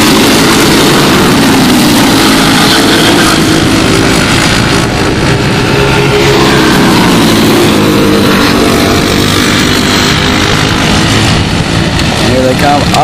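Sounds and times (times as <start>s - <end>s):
racing kart engines: 0.0s - 13.0s.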